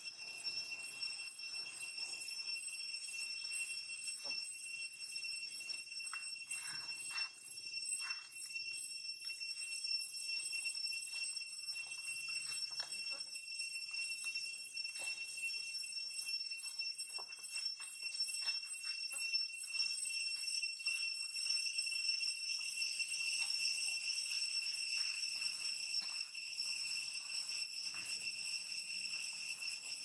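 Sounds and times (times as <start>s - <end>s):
insects high-pitched drone: 0.0s - 30.0s.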